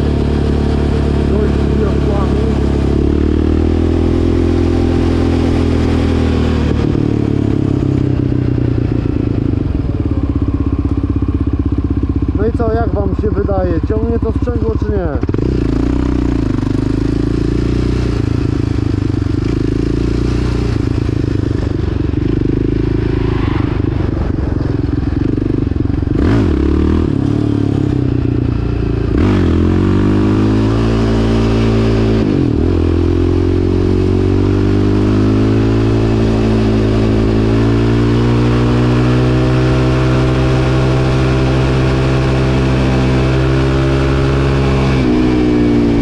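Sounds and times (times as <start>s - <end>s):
quad engine pulling under throttle: 0.0s - 46.0s.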